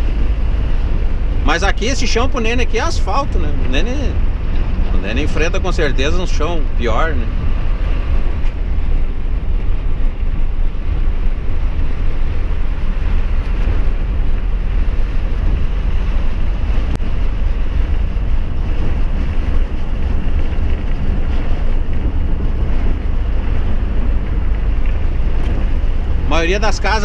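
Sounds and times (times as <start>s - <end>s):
road and wind noise: 0.0s - 27.0s
truck engine rumble: 0.0s - 27.0s.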